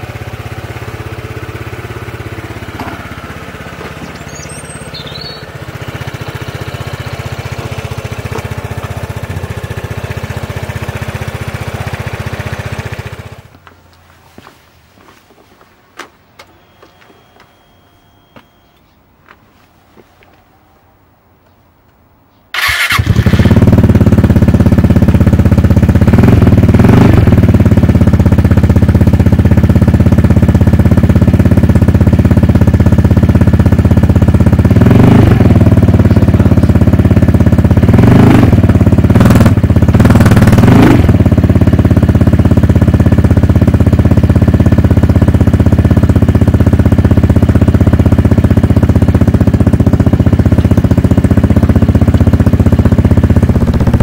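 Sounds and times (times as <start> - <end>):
scooter engine idling: 0.0 - 14.2, 16.3 - 19.0, 22.5 - 54.0.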